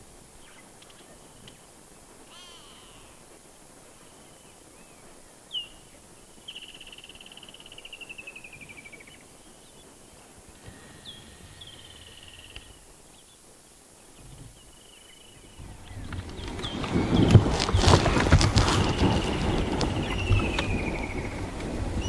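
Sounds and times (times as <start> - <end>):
faint steady whine: 0.0 - 22.0
birds whistling and trilling: 4.0 - 22.0.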